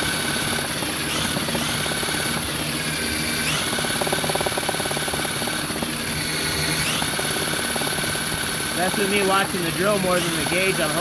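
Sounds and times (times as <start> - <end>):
electric drill running: 0.0 - 11.0
fast even rattle: 0.0 - 11.0.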